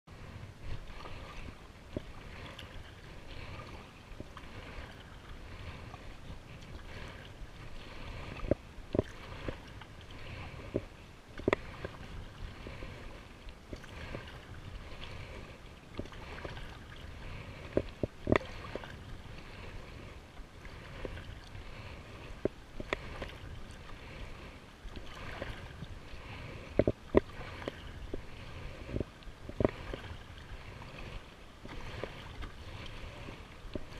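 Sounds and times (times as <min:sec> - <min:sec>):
paddle splashes: 0:00.1 - 0:33.9
rush of wind and water: 0:00.1 - 0:33.9.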